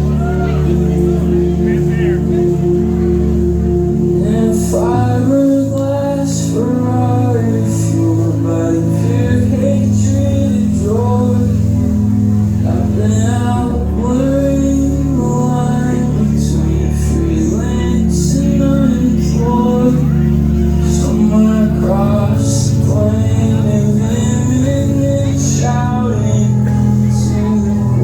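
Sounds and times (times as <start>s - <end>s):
person singing: 0.0s - 28.0s.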